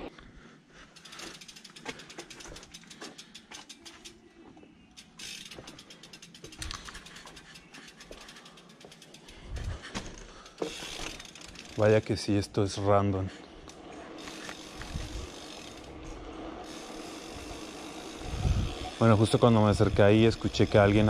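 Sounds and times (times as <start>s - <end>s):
bike hub ratchet clicking: 1.0s - 4.2s, 4.9s - 12.1s, 13.6s - 21.0s.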